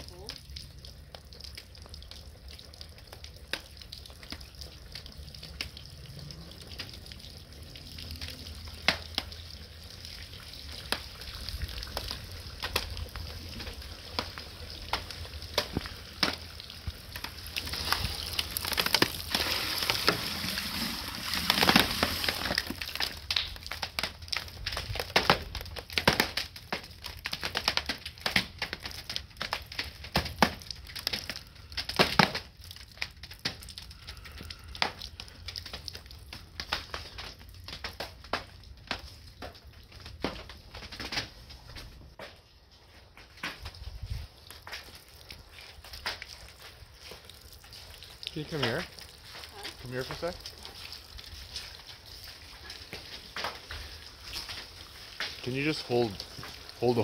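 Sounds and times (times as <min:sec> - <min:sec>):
ice cracking and popping: 0:00.0 - 0:42.4, 0:43.1 - 0:57.0.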